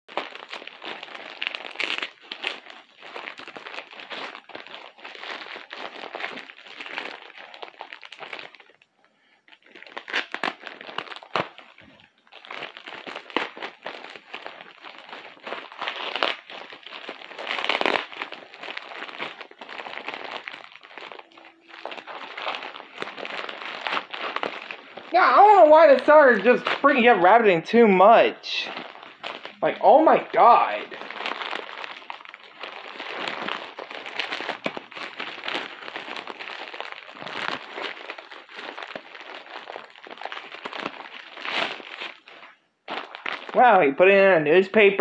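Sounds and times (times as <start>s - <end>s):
packing material crinkling: 0.1s - 45.0s.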